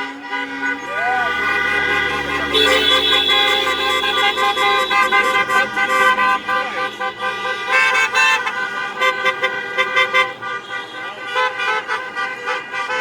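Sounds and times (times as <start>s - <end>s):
truck and car horns honking: 0.0s - 13.0s.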